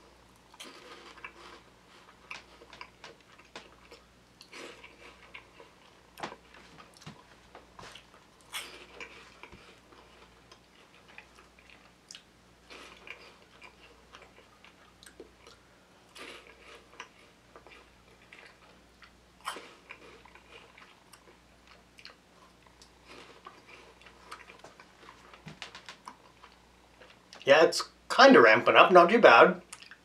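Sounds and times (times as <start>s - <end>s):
faint low hum: 0.0s - 30.0s
crunching and chewing snacks: 0.3s - 27.5s.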